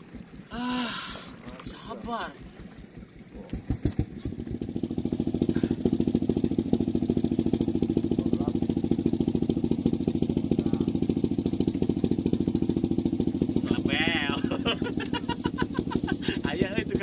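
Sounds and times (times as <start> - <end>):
small boat engine pulsing: 0.0 - 17.0.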